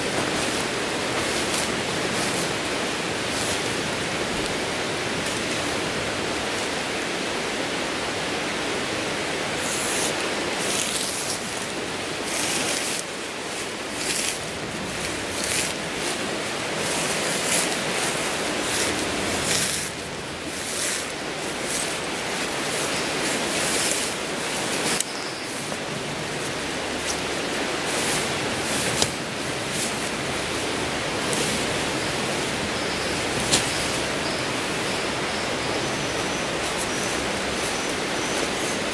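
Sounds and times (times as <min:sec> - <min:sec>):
tent fabric rustling: 0:00.0 - 0:06.7, 0:09.5 - 0:38.9
steady rushing background noise: 0:00.0 - 0:38.9.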